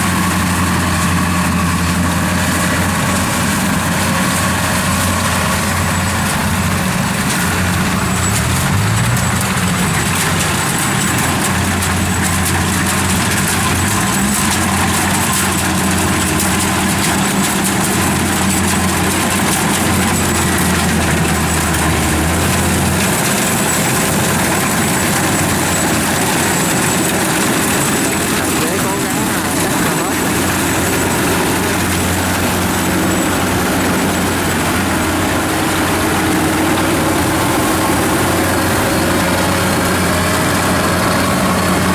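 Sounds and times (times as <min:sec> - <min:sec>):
combine harvester running: 0:00.0 - 0:41.9.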